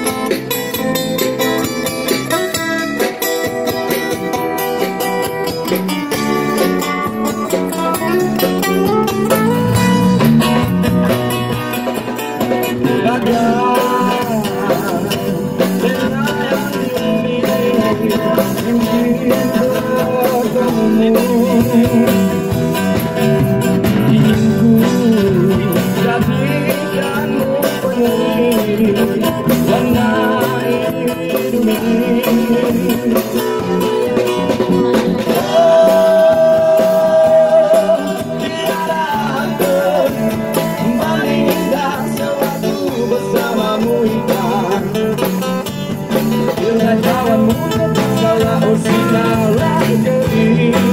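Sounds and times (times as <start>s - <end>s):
bass: 0.0s - 50.9s
drums: 0.0s - 50.9s
guitar: 0.0s - 50.9s
man singing into a microphone: 5.7s - 50.9s.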